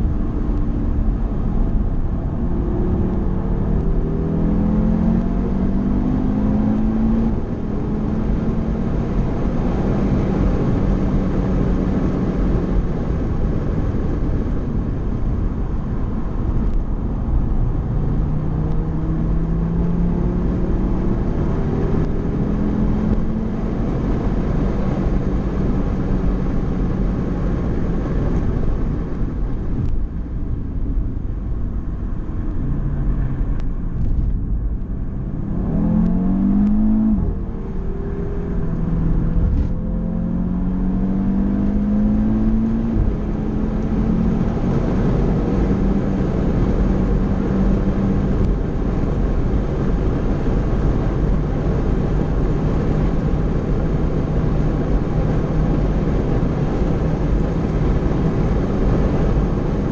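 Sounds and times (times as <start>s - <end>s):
car engine under load: 0.0s - 59.9s
road and wind noise: 0.0s - 59.9s.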